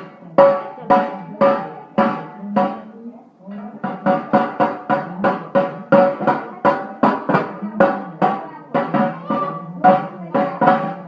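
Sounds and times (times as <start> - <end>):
baby banging resonant object: 0.0 - 11.0.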